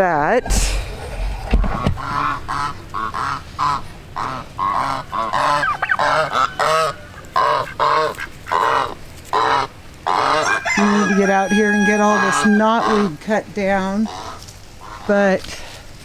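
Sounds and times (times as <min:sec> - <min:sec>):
poultry honking: 0:01.6 - 0:15.4.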